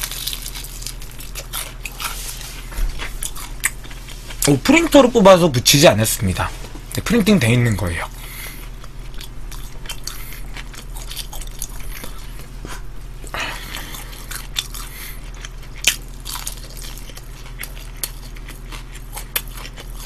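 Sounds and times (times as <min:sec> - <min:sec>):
crunchy chewing of fried chicken: 0:00.0 - 0:05.4, 0:06.8 - 0:20.0
steady low hum: 0:00.0 - 0:20.0.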